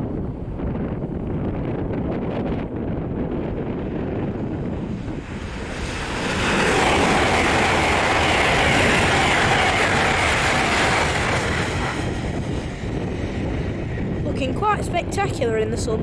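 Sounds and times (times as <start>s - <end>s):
high-speed train rushing past: 0.0s - 16.0s
wind buffeting microphone: 0.0s - 16.0s.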